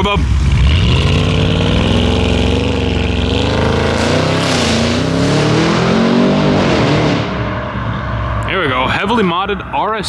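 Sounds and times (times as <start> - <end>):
car engine accelerating hard: 0.0 - 9.2.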